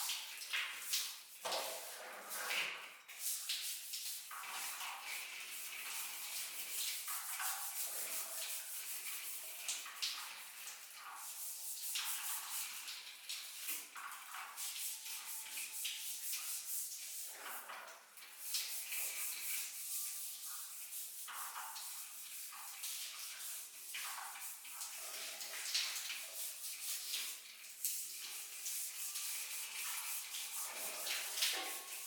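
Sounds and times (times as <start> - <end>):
rubbing and scraping on a surface: 1.4 - 9.9, 14.4 - 32.0.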